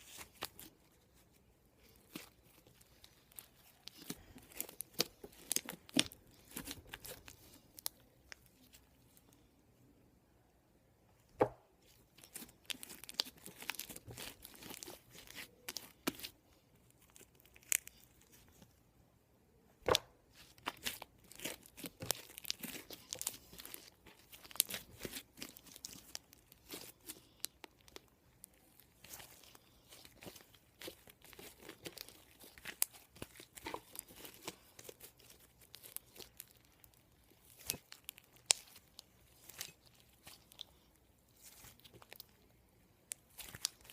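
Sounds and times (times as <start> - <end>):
slime squishing and crackling: 0.0 - 9.4, 11.8 - 18.7, 20.3 - 43.9.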